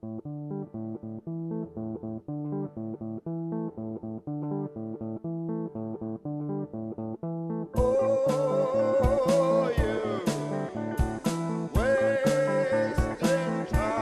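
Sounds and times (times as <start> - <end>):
guitar and bass instrumental: 0.0 - 14.0.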